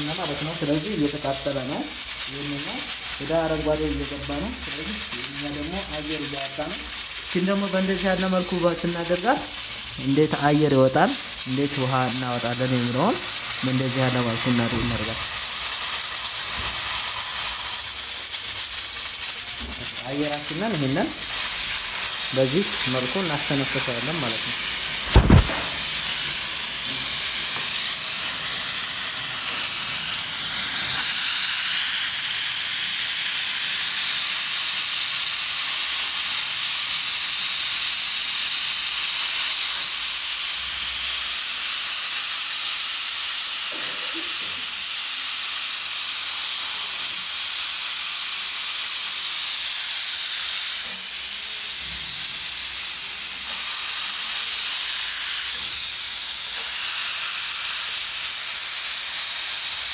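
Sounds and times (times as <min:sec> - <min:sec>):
steam hissing from valve: 0:00.0 - 0:59.9.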